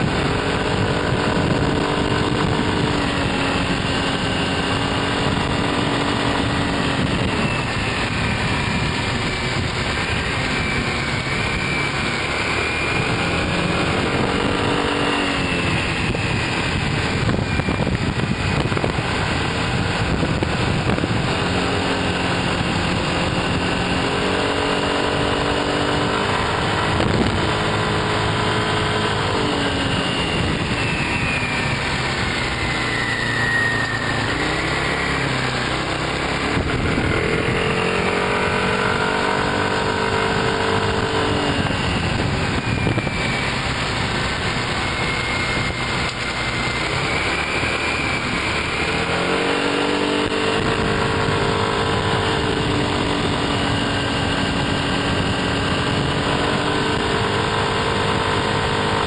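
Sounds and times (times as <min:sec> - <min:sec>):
motor scooter engine running: 0:00.0 - 0:59.0
steady rush of noise: 0:00.0 - 0:59.0.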